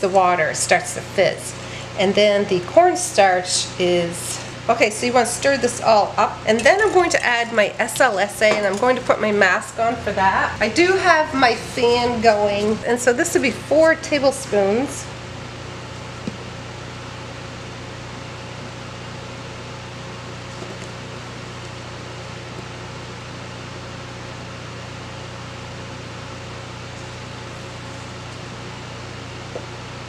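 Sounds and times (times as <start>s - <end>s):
electric fan humming: 0.0s - 30.0s.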